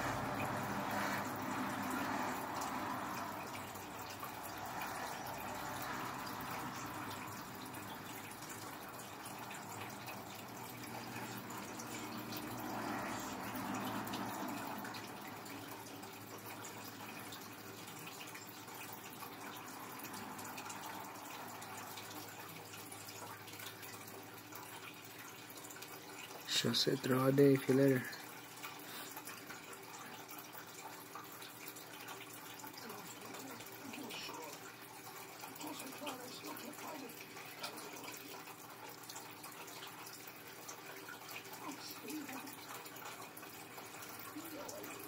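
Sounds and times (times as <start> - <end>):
faint traffic hiss through window: 0.0 - 45.0.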